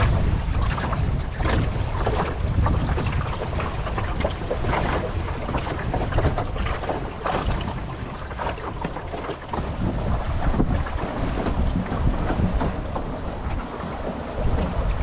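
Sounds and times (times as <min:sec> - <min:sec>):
water splashing against hull: 0:00.0 - 0:15.0
wind buffeting microphone: 0:00.0 - 0:15.0.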